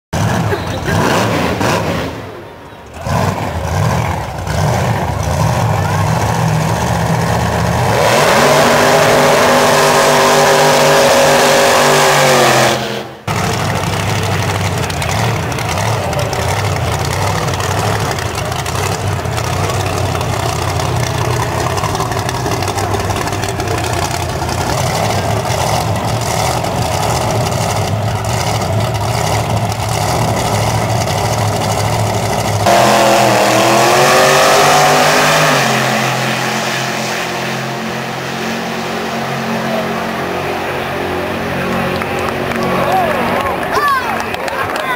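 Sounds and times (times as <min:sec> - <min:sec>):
truck engine revving: 0:00.1 - 0:44.9.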